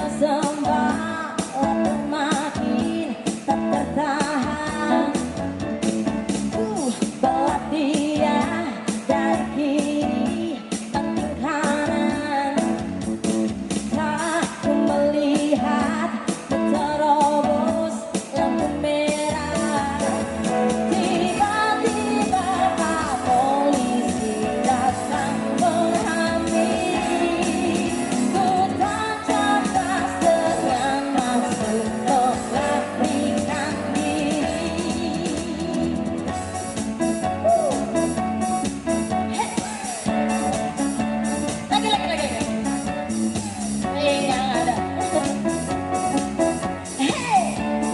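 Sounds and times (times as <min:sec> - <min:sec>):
person singing: 0:00.0 - 0:05.9, 0:06.5 - 0:12.8, 0:14.0 - 0:41.0, 0:43.4 - 0:46.1, 0:46.8 - 0:47.9
drums: 0:00.0 - 0:47.9
guitar: 0:00.0 - 0:47.9.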